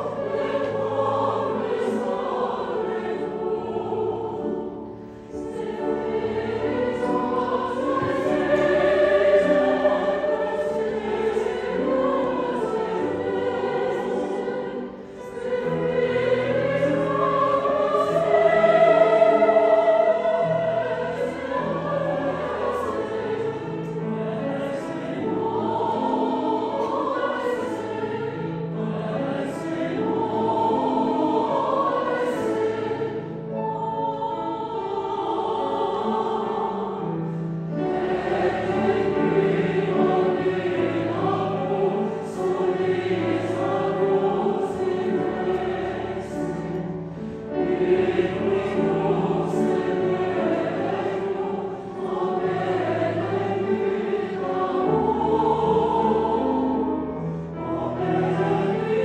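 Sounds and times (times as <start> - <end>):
mixed choir singing: 0.0 - 59.0
piano accompaniment: 0.0 - 59.0.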